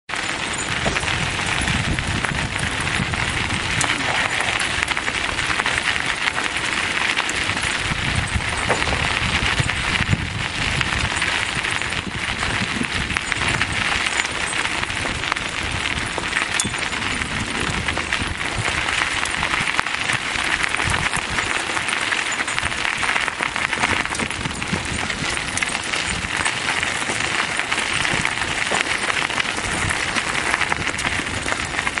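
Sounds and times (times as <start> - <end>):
bicycle tyres crunching on gravel: 0.1 - 32.0.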